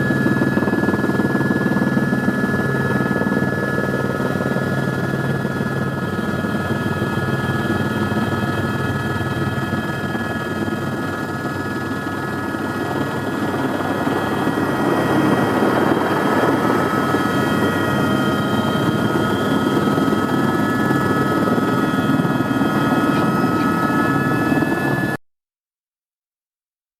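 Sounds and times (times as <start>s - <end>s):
helicopter rotor and engine: 0.0s - 25.2s.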